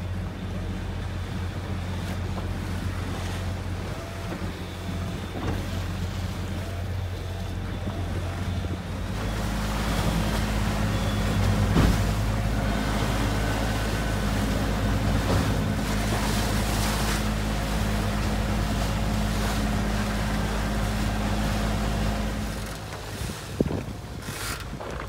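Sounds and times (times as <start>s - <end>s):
boat engine hum: 0.0s - 25.0s
wind and choppy sea rushing: 0.0s - 25.0s.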